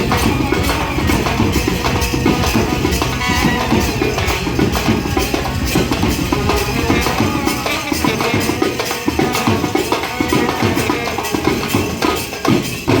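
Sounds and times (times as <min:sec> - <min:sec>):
band playing fast music: 0:00.0 - 0:13.0
drums: 0:00.0 - 0:13.0.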